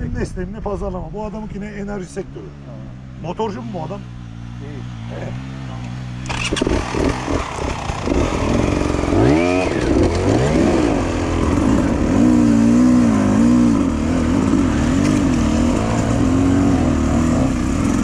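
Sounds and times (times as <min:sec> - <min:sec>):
motorcycle engine revving: 0:02.4 - 0:18.0.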